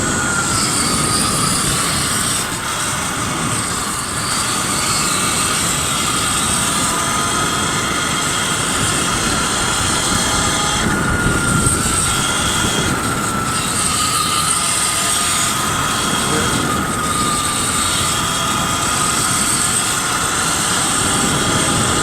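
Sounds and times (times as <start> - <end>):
electric motor whine: 0.0 - 22.0
wind rush over microphone: 0.0 - 22.0.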